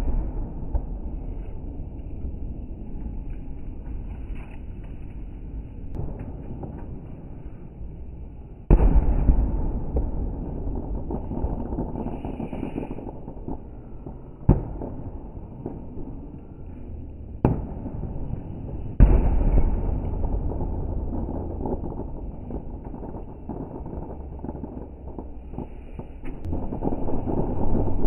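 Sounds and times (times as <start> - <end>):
fireworks bangs: 0.0 - 28.0
fireworks crackles: 0.0 - 28.0.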